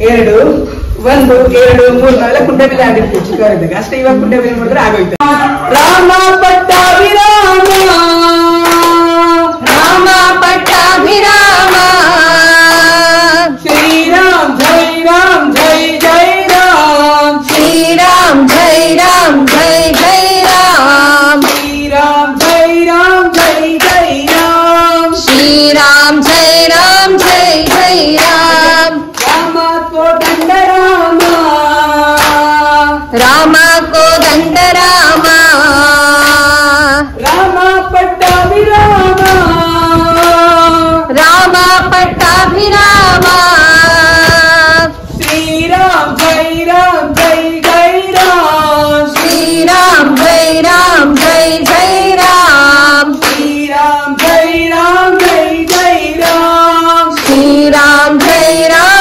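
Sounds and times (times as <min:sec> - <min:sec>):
group singing a chant: 0:05.2 - 0:59.0
hand-clapping in time: 0:05.8 - 0:59.0.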